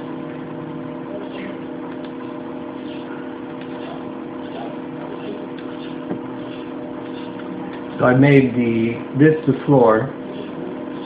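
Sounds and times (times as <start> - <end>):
steady tonal hum: 0.0 - 11.0.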